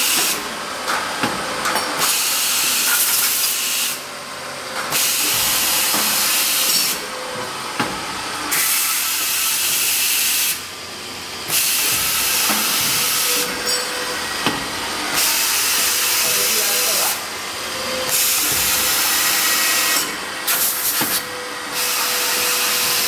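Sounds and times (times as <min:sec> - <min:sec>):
machine hissing: 0:02.0 - 0:04.1, 0:04.9 - 0:23.0.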